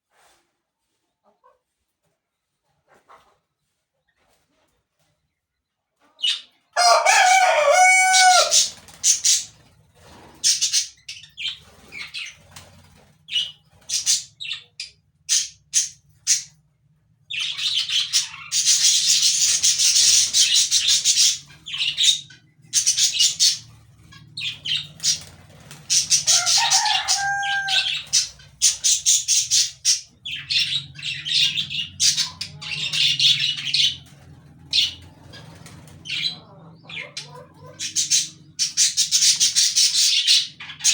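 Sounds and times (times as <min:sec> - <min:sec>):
birds screeching and chirping: 0:06.2 - 0:40.9.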